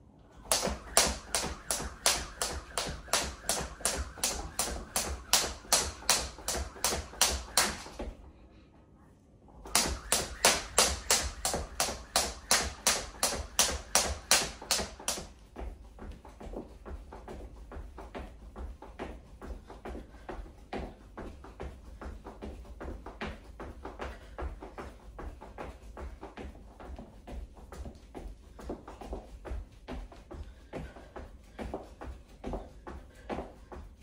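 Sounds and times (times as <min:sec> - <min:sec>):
skipping rope slapping floor: 0:00.4 - 0:08.2, 0:09.6 - 0:34.0.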